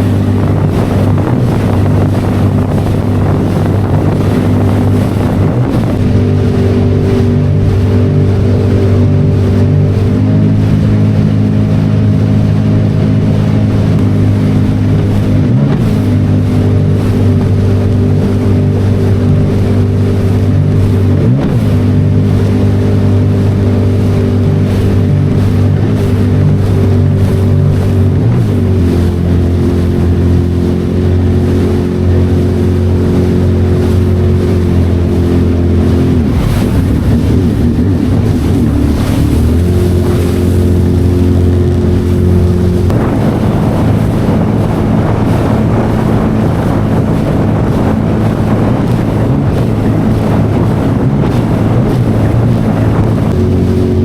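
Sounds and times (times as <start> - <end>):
jet ski engine running: 0.0 - 54.0.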